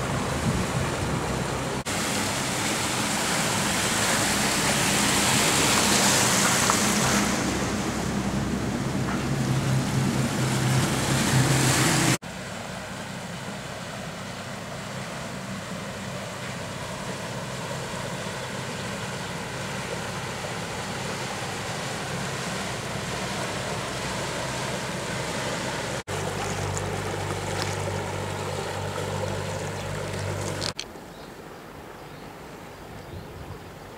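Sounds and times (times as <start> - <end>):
boat engine hum: 0.0 - 33.9
rushing water wake: 0.0 - 33.9
wind: 0.0 - 33.9.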